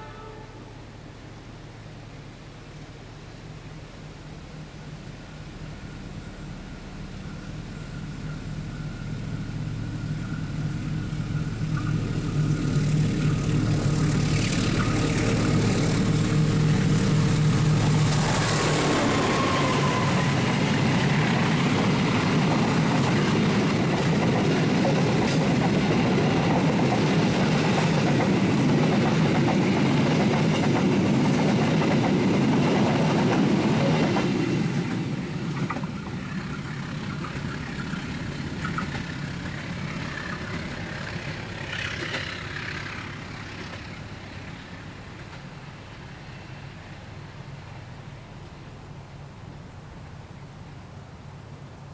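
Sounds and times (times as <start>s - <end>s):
locomotive engine: 4.4s - 49.6s
train wheels rushing on rails: 5.7s - 47.9s.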